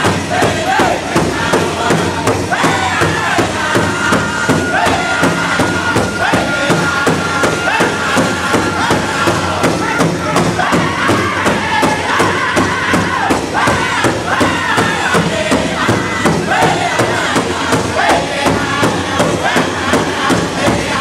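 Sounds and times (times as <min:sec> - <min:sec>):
group singing together: 0:00.0 - 0:21.0
large hand drum beating: 0:00.0 - 0:21.0.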